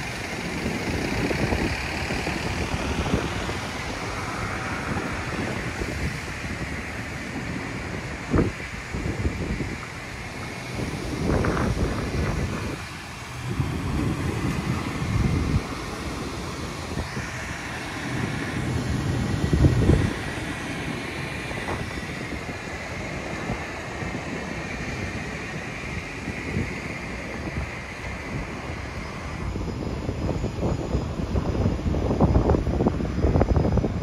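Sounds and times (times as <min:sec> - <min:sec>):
airliner whine and hum: 0:00.0 - 0:34.0
wind buffeting microphone: 0:00.0 - 0:34.0.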